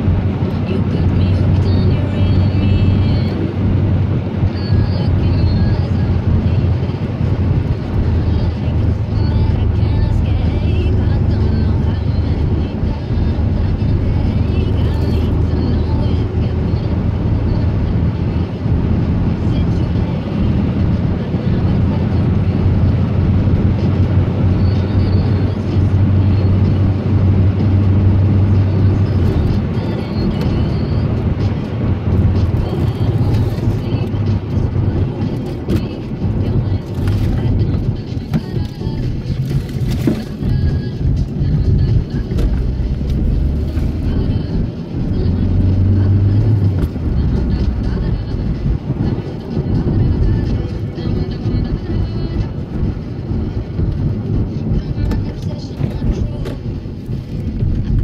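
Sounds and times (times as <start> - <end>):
car engine and tyre drone: 0.0 - 58.0.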